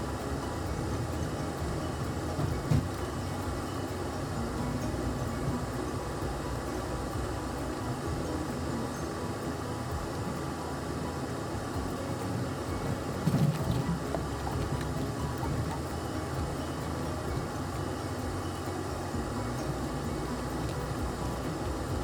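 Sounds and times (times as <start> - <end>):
engine running: 0.0 - 22.0
tyres rolling over dirt trail: 0.0 - 22.0.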